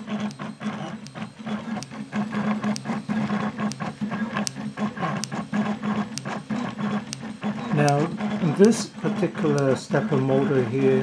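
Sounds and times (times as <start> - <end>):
quick printer clicks: 0.0 - 11.0
stepper motors whining: 0.0 - 11.0.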